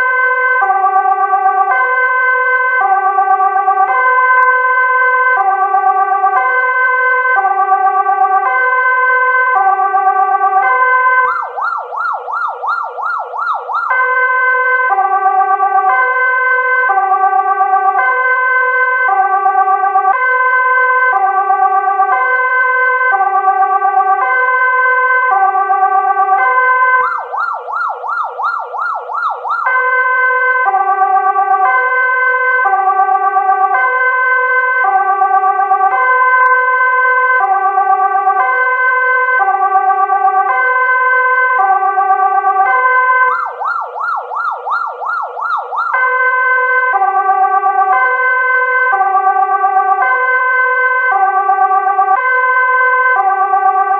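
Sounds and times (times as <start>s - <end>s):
two-tone ambulance siren: 0.0s - 53.9s.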